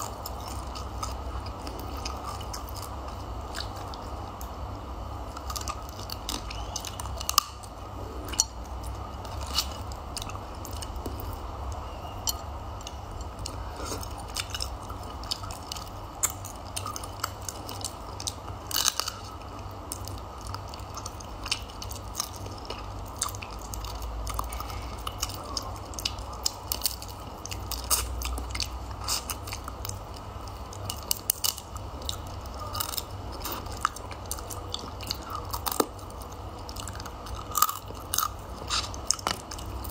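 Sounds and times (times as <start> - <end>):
crunching and chewing: 0.0 - 39.9
steady low hum: 0.0 - 39.9.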